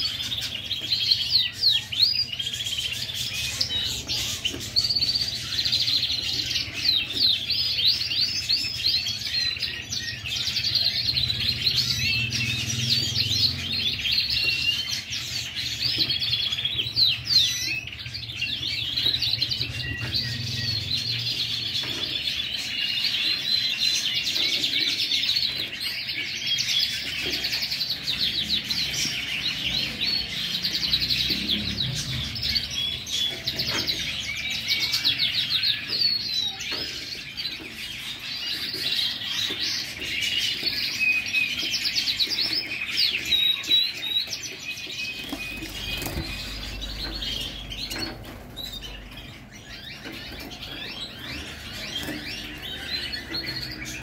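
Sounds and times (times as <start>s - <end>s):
canaries singing: 0.0s - 54.0s.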